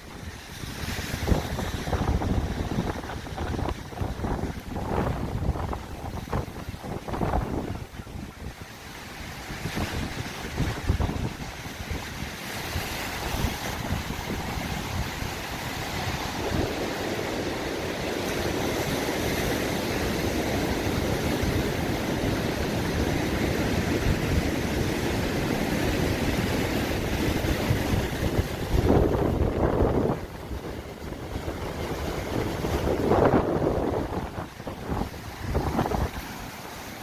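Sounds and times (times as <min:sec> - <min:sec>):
sea surf washing on shore: 0:00.0 - 0:37.0
wind buffeting microphone: 0:00.0 - 0:37.0.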